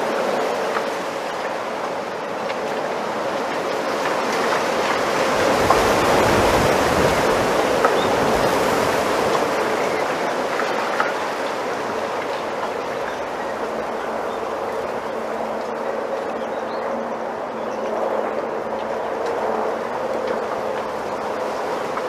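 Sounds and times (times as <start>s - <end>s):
wind rustling bamboo leaves: 0.0s - 22.0s.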